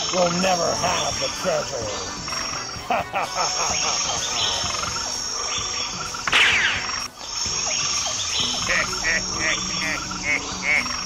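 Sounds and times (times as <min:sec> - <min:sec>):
frog calls: 0:00.0 - 0:11.0
insect drone: 0:00.0 - 0:11.0.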